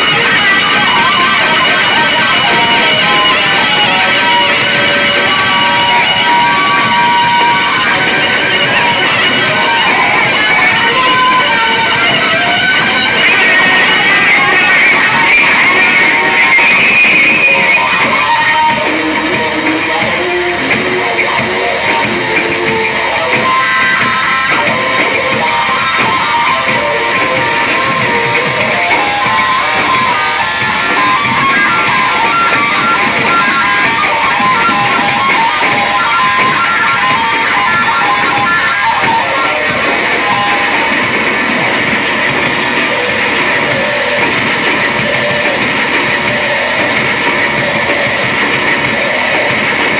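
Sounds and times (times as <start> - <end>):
drum kit: 0.0 - 49.9
electric bass guitar runs: 0.0 - 49.9.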